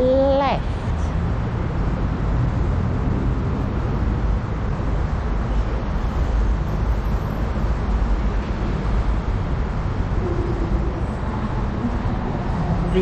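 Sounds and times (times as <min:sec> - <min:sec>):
low rumbling outdoor background noise: 0:00.0 - 0:13.0.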